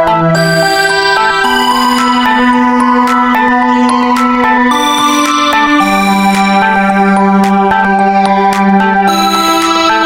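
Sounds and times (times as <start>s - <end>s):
instrumental music with sustained chords: 0.0s - 10.0s.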